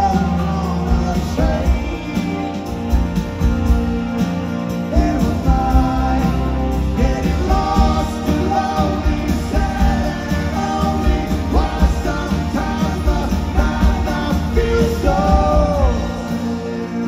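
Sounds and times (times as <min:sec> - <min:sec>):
man singing: 0:00.0 - 0:03.1, 0:04.8 - 0:17.0
live rock band: 0:00.0 - 0:17.0.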